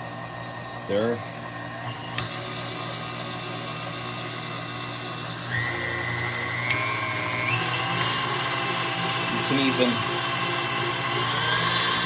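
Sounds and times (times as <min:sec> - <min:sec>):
mixer high whine: 0:00.0 - 0:12.0
stand mixer motor hum: 0:01.2 - 0:12.0.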